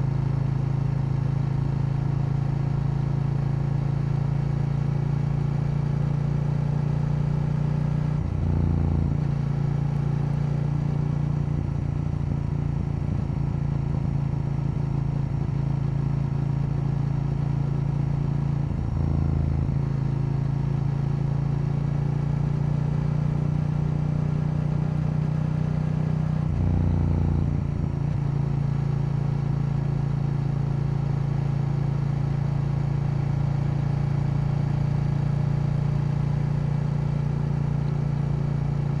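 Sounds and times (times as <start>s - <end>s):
motorcycle engine running: 0.0s - 24.2s, 24.8s - 39.0s.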